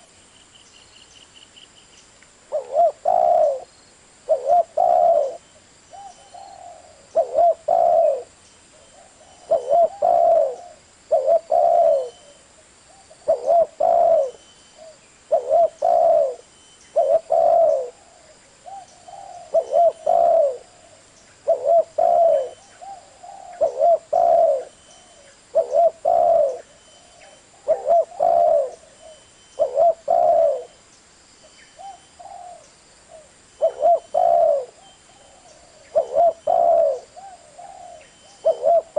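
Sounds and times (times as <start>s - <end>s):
dove cooing: 2.5s - 3.7s, 4.3s - 30.8s, 31.8s - 38.9s.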